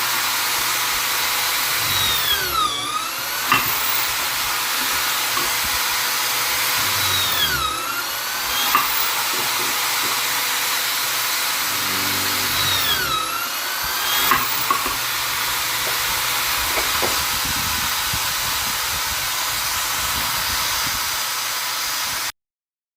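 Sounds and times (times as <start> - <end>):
drill motor whining: 0.0 - 22.1.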